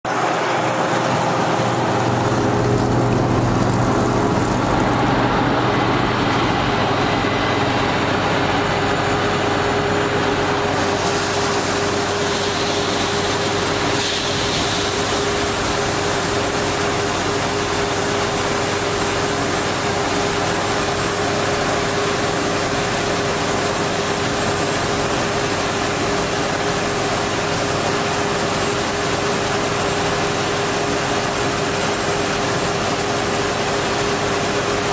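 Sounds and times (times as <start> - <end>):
grain pouring from auger: 0.1 - 5.8, 10.5 - 34.9
combine harvester droning: 0.1 - 34.9.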